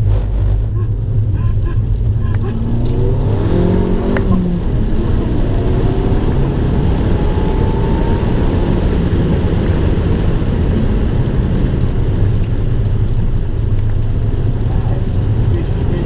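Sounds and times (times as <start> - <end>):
car engine revving: 0.0 - 16.0
road and wind noise: 0.0 - 16.0.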